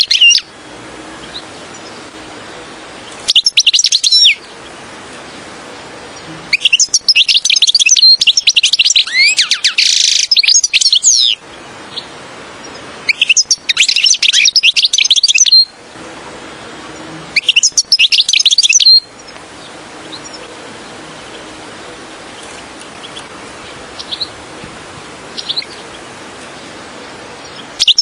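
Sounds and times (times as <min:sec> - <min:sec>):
finch twittering song: 0:00.0 - 0:15.8, 0:16.9 - 0:28.0
faint steady hiss: 0:00.0 - 0:28.0.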